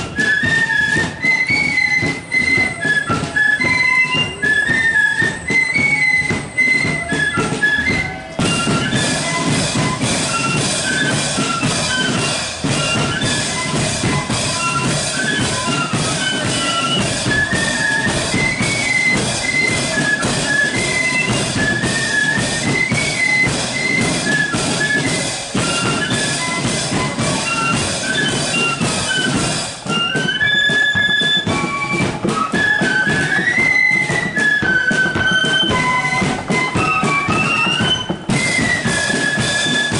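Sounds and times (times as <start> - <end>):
flutes playing melody: 0.0 - 39.9
side drums and bass drum: 0.0 - 39.9.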